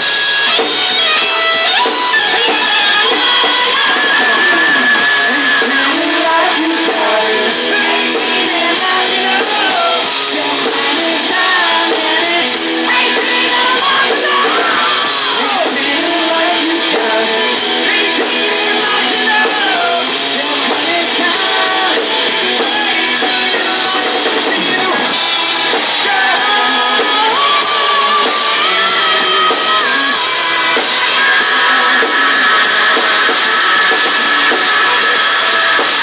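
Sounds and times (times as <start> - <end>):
distorted electric guitar: 0.0 - 36.0
drums: 0.0 - 36.0
man singing high belted vocal: 1.8 - 36.0.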